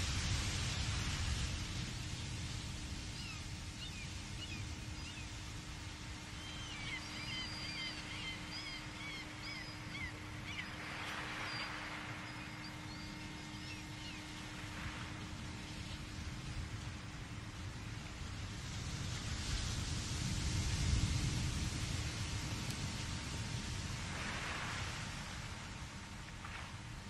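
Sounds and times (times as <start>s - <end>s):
background hiss: 0.0s - 27.0s
steady low hum: 0.0s - 27.0s.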